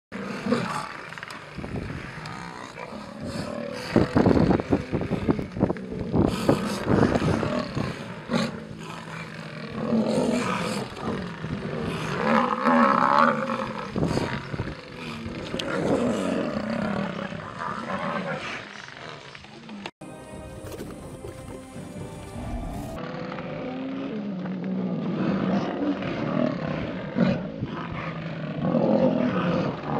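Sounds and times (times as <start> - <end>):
lionesses snarling and growling: 0.1 - 19.9, 20.6 - 29.9.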